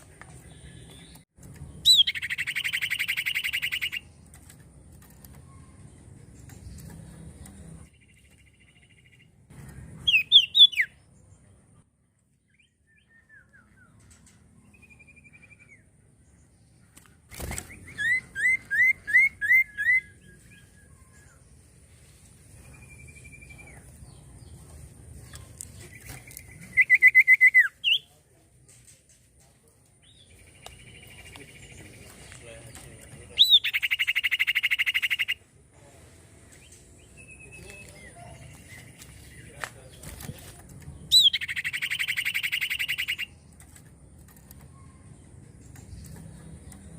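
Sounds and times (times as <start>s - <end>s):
bird singing repeated notes: 0.0s - 21.7s, 25.3s - 28.2s, 30.0s - 35.6s, 36.6s - 46.9s.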